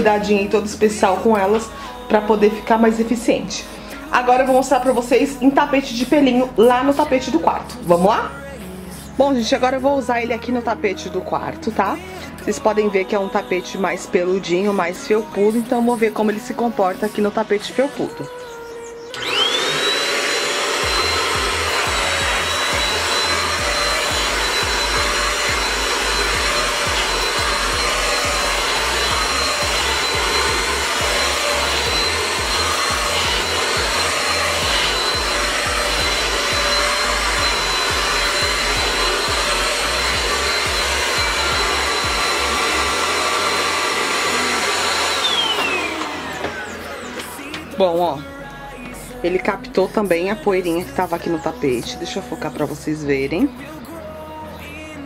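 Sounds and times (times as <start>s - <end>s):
vacuum cleaner motor whining: 0.0s - 8.3s, 12.5s - 49.6s.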